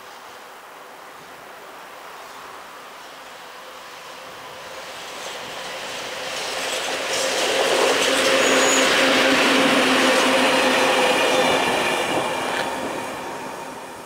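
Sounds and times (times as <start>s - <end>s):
train wheels rolling on rails: 2.1s - 14.0s.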